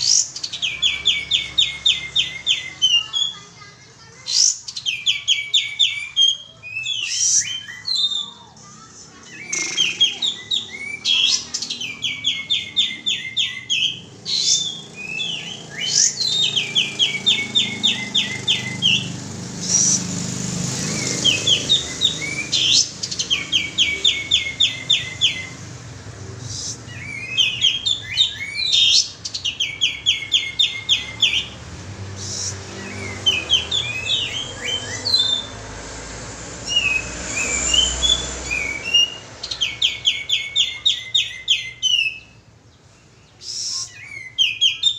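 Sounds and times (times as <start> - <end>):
bird chirps: 0.0 - 44.9.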